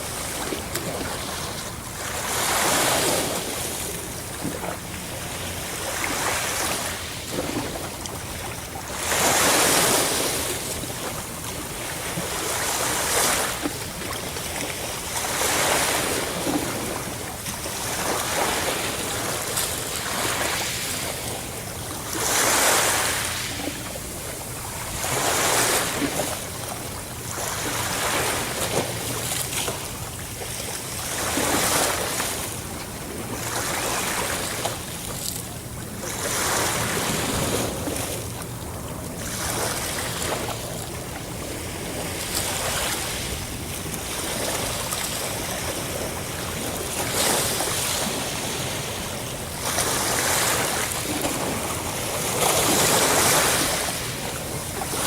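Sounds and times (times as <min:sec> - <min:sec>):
sea waves breaking ashore: 0:00.0 - 0:55.0.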